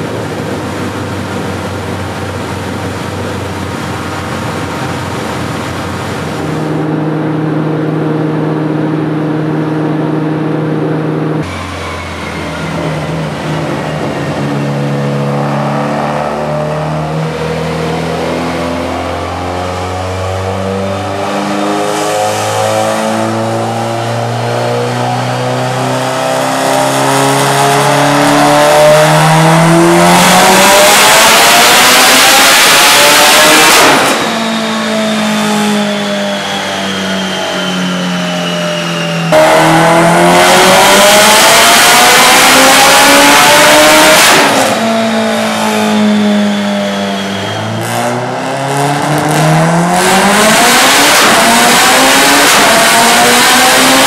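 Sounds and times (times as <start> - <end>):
rush of noise: 0.0 - 18.9, 29.3 - 54.0
car engine revving on dyno: 0.0 - 54.0.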